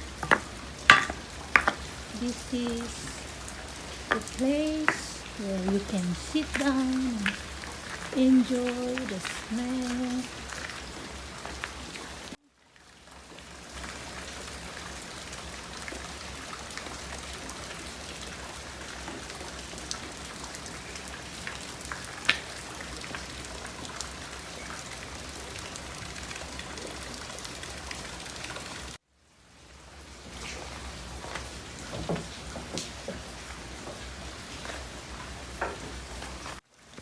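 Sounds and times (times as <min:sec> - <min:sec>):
raindrops tapping on surfaces: 0:00.0 - 0:29.0, 0:29.9 - 0:37.0
steady rain falling: 0:00.0 - 0:37.0.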